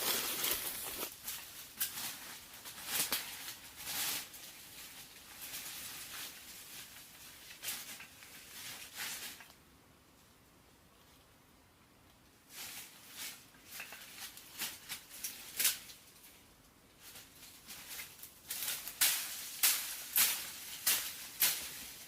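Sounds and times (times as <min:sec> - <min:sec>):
rustling and crinkling handling noise: 0:00.0 - 0:09.6, 0:12.4 - 0:22.0.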